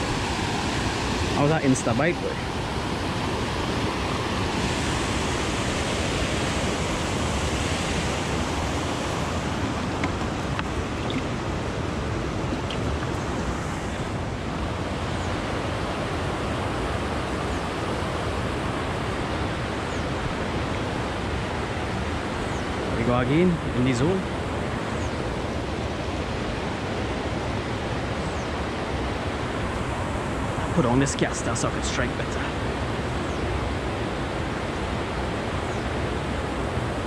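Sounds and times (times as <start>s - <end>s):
wind blowing across microphone: 0.0s - 37.0s.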